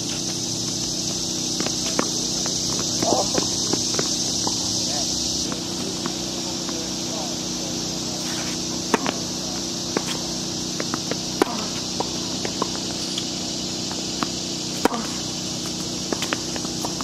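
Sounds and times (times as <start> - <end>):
rackets striking tennis ball: 0.0 - 17.0
tennis ball bouncing: 0.0 - 17.0.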